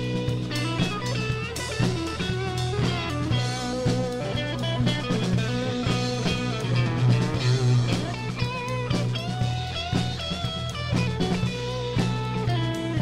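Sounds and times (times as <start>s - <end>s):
drum kit: 0.0s - 13.0s
electric guitar solo: 0.0s - 13.0s.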